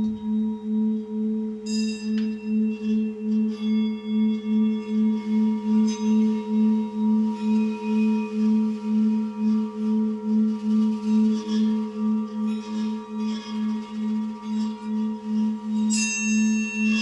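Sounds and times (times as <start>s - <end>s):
throbbing low ringing tone: 0.0s - 17.0s.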